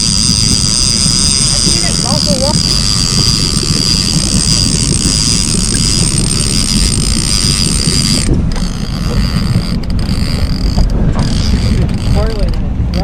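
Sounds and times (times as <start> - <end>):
boat motor rumble: 0.0 - 13.0
steady high whine: 0.0 - 13.0
wind buffeting microphone: 0.0 - 13.0.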